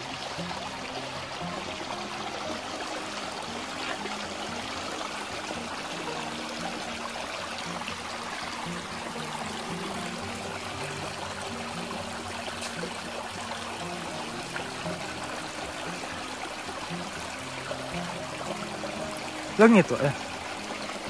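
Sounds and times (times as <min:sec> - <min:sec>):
river flowing: 0:00.0 - 0:21.0.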